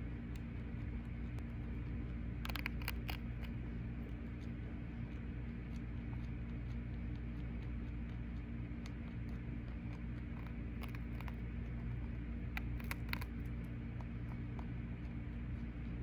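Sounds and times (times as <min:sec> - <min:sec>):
chinchilla gnawing crunching clicks: 0:00.0 - 0:16.0
steady low hum: 0:00.0 - 0:16.0.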